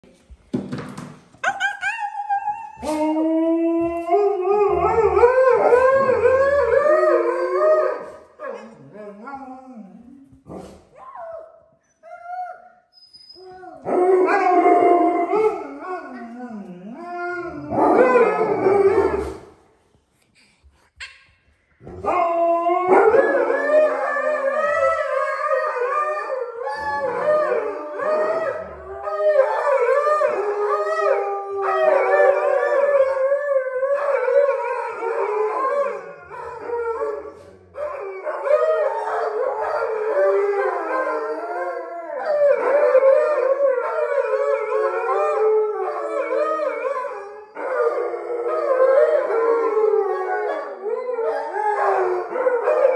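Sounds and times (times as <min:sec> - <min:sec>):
dogs howling: 0:01.5 - 0:10.0, 0:13.5 - 0:19.4, 0:22.0 - 0:52.9.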